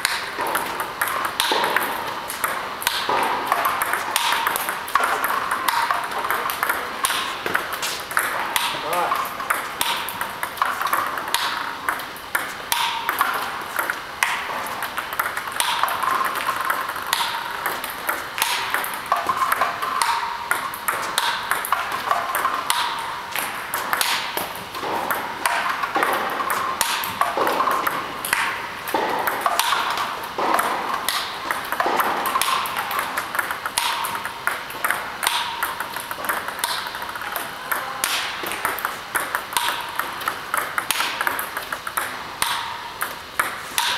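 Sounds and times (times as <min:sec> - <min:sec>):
table tennis ball clicks: 0:00.0 - 0:43.9.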